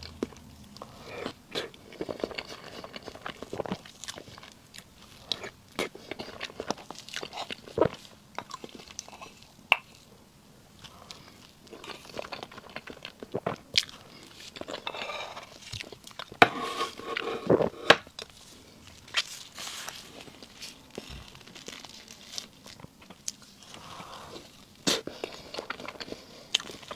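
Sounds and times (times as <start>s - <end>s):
chewing soft cake: 0.0s - 26.9s.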